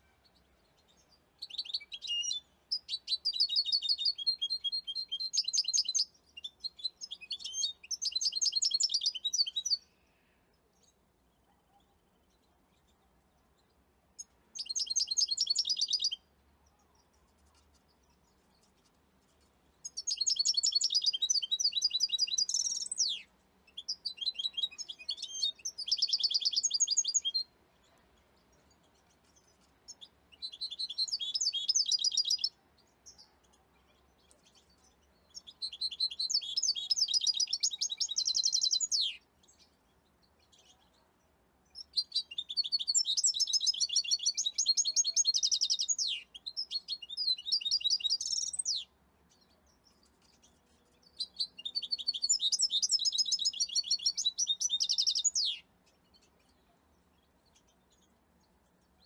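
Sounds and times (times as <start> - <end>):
finch twittering song: 0.0 - 59.0.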